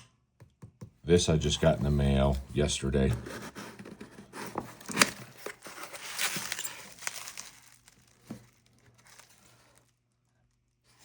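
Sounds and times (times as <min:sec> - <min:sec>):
packaging crinkling and rustling: 0:01.6 - 0:11.0.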